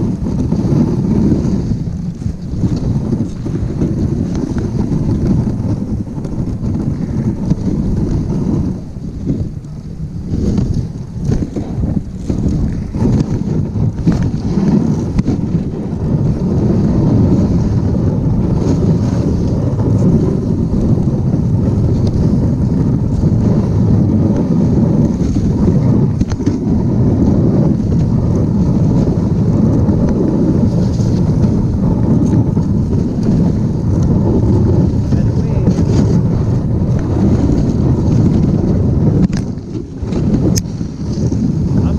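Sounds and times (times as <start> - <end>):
sled runners rumbling on snow: 0.0 - 41.9
wind buffeting microphone: 0.0 - 41.9.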